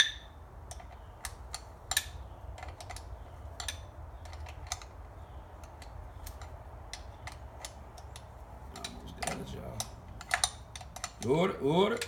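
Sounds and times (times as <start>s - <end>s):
steady low hum: 0.0s - 12.0s
ratchet clicking: 0.7s - 11.3s.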